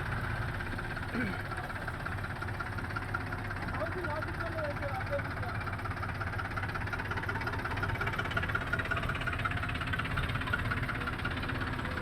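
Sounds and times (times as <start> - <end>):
diesel engine pulsing: 0.0 - 12.0.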